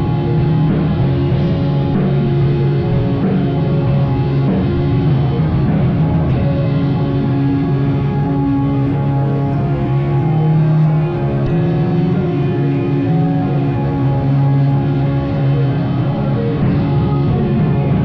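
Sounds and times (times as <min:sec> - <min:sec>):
drums: 0:00.0 - 0:18.0
rock band playing: 0:00.0 - 0:18.0.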